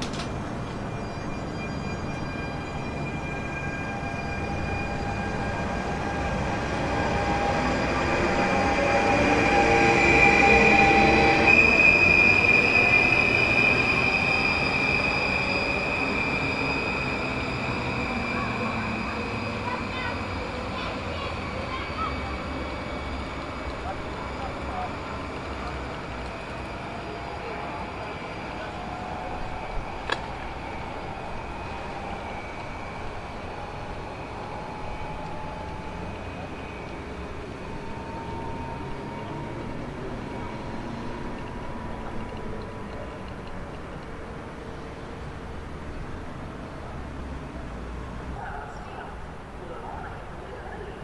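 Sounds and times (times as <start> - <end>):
train wheels rumbling: 0.0 - 51.0
train wheels squealing: 0.0 - 51.0.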